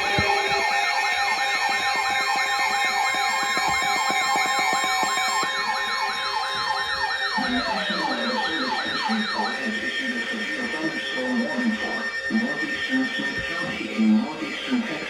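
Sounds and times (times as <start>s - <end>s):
electronic yelp siren: 0.0s - 15.0s.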